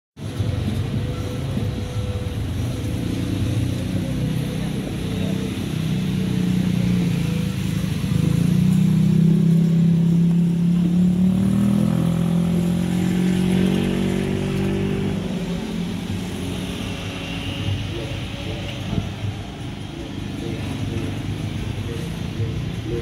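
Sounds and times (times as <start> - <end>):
engine running with low drone: 0.2 - 23.0.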